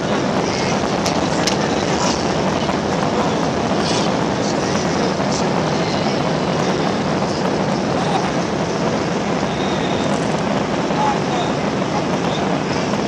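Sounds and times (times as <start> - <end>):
jet engine and rolling noise: 0.0 - 13.0.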